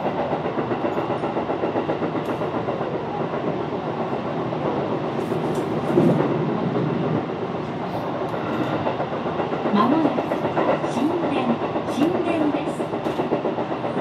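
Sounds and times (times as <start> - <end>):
train wheel and rail rumble: 0.0 - 14.0.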